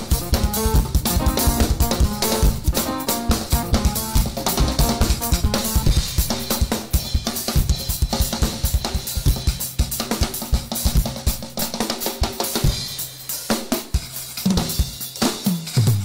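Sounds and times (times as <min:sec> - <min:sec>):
drum kit playing fast: 0:00.0 - 0:16.0.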